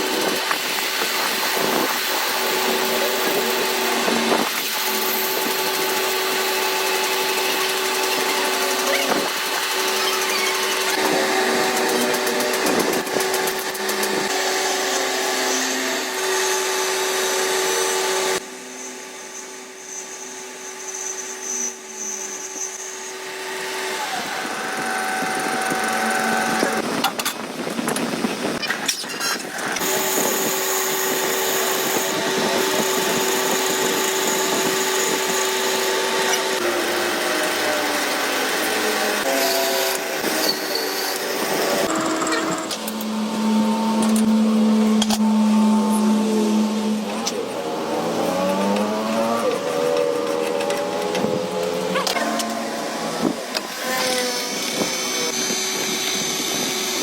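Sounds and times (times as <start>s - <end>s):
high-pitched whine: 0.0s - 27.1s, 28.4s - 57.0s
power tool whining: 0.0s - 57.0s.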